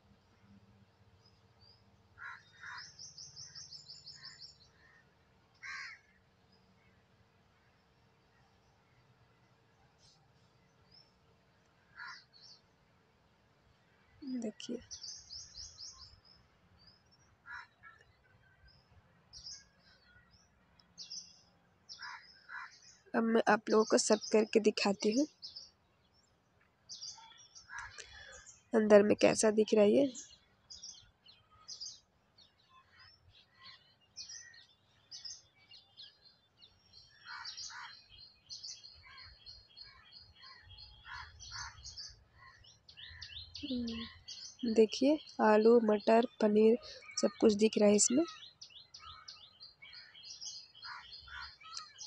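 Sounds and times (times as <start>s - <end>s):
faint bird chirps: 0.0s - 7.0s, 14.0s - 26.3s, 26.9s - 52.0s.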